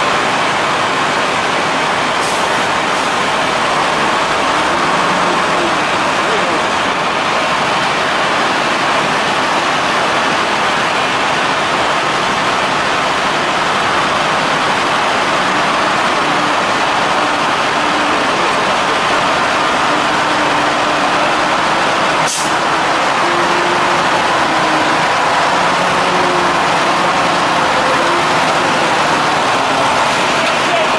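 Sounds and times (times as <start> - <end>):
truck diesel engine under load: 0.0 - 30.9.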